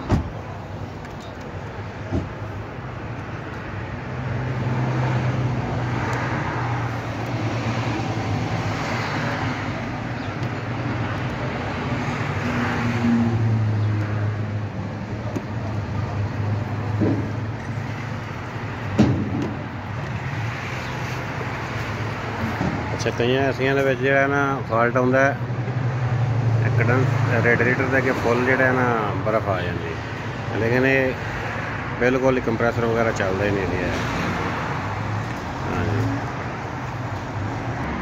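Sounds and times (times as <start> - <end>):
street traffic engines humming: 0.0 - 38.0.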